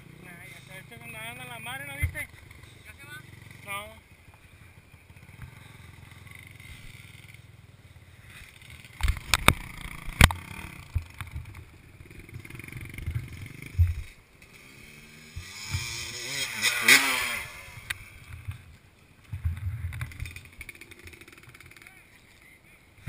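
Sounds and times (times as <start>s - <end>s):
distant dirt bike engines: 0.0s - 23.0s.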